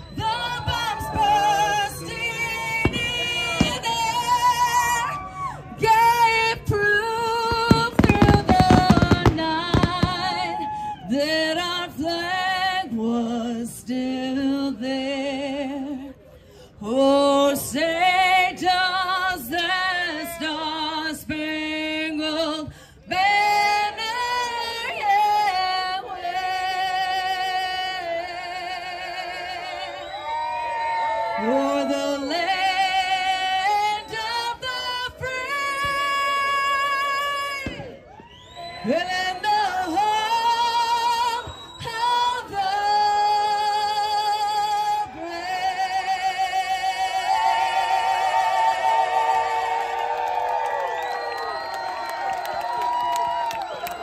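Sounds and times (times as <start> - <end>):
woman singing with vibrato: 0.0 - 30.2, 31.3 - 38.0, 38.8 - 48.4.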